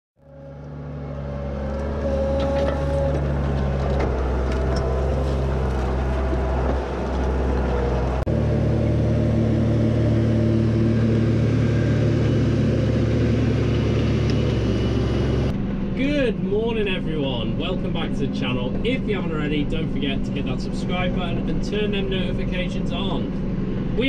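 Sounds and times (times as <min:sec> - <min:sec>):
diesel tractor engine running: 0:00.2 - 0:24.0.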